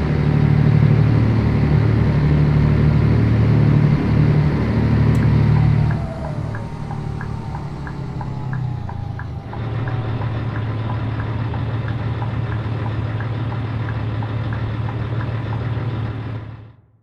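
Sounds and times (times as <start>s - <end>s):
diesel truck engine droning: 0.0s - 16.9s.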